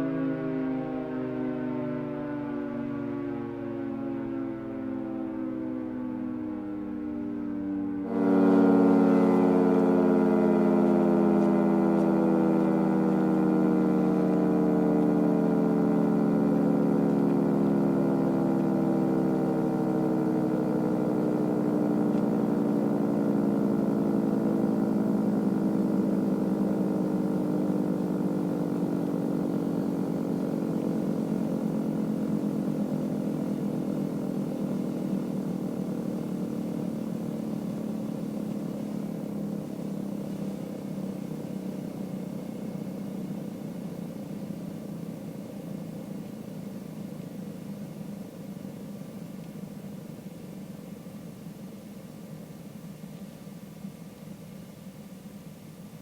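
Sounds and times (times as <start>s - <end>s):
warning siren winding down: 0.0s - 48.4s.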